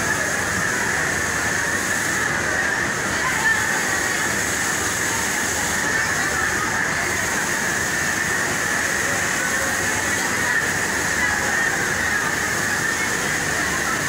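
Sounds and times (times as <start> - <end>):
industrial sewing machines running: 0.0 - 14.0.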